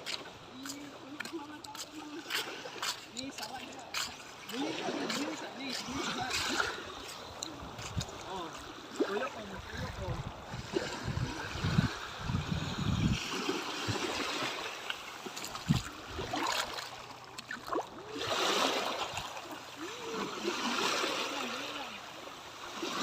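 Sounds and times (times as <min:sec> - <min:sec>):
water splashing around kayak: 0:00.0 - 0:23.0.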